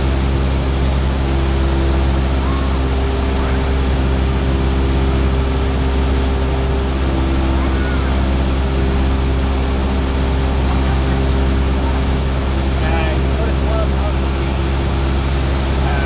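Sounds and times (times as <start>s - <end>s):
light aircraft engine drone in cabin: 0.0s - 16.0s.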